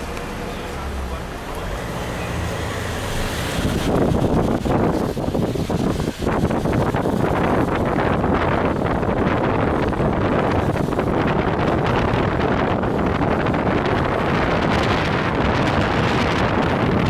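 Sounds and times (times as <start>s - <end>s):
tyres on wet asphalt: 0.0s - 17.0s
wind buffeting microphone: 0.0s - 17.0s.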